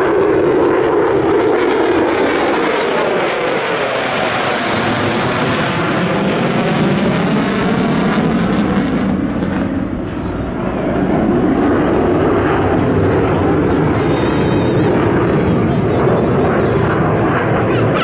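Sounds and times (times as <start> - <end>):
jet engine roar overhead: 0.0 - 18.0.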